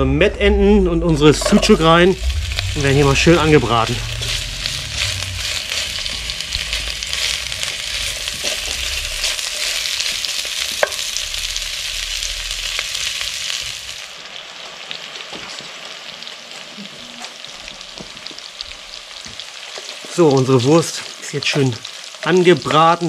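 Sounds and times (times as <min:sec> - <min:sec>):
sausages sizzling in hot oil: 0:01.5 - 0:23.0.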